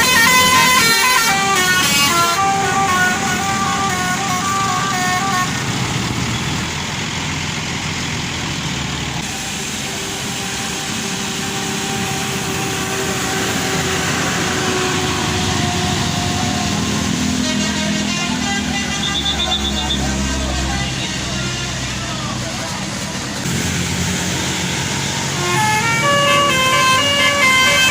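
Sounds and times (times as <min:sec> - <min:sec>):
bus engine running: 0:00.0 - 0:27.9
road traffic noise: 0:00.0 - 0:27.9.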